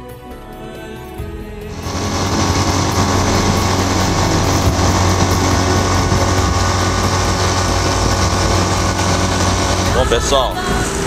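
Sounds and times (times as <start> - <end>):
outboard motor running: 1.7 - 11.0.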